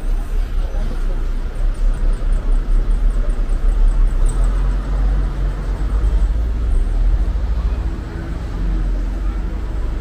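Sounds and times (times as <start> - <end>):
low rumble of motor vehicles: 0.0 - 10.0.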